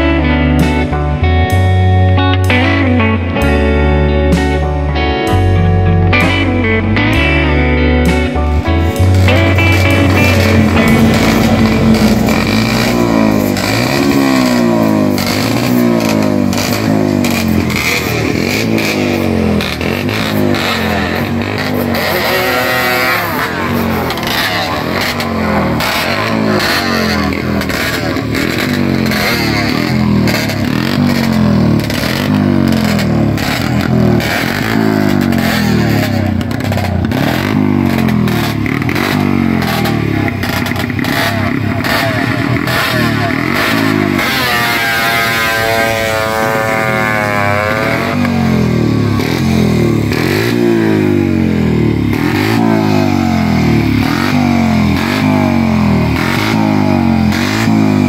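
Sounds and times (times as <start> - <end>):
motorcycle engines blipping throttle: 0.0 - 58.0
higher-pitched engine revving: 5.9 - 58.0.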